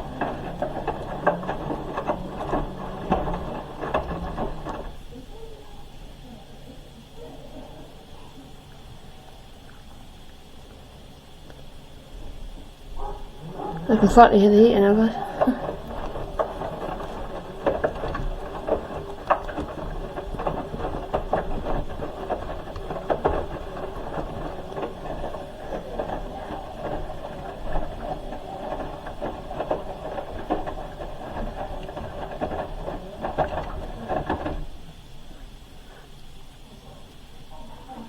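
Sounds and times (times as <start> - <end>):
wet load sloshing and knocking: 0.0 - 5.4, 11.6 - 38.0
washing machine drum turning: 0.0 - 6.4, 7.5 - 38.0.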